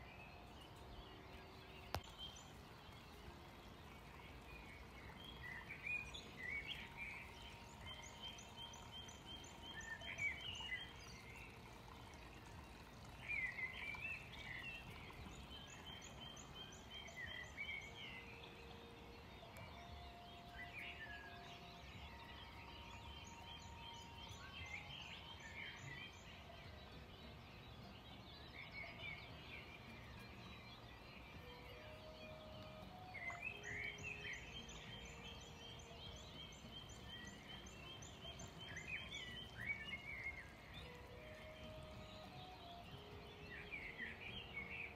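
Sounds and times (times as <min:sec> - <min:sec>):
faint outdoor background: 0:00.0 - 0:44.9
songbird chirping and trilling: 0:00.0 - 0:44.9.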